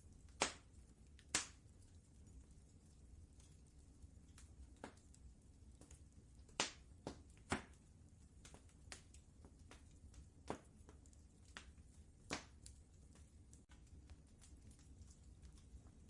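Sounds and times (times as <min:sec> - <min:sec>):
fire pops and snaps: 0:00.0 - 0:16.0
low steady rumble: 0:00.0 - 0:16.0
wood fire crackling: 0:00.0 - 0:16.0.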